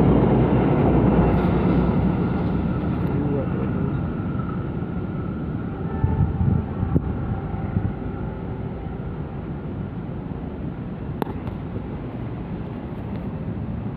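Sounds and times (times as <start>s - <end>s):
passenger train rumbling: 0.0s - 13.9s.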